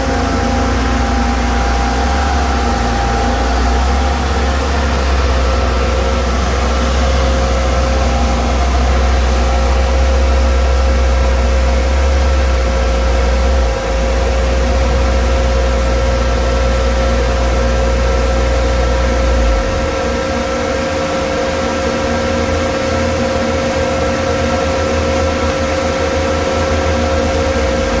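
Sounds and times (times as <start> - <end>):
heavy machinery humming and whining: 0.0 - 28.0.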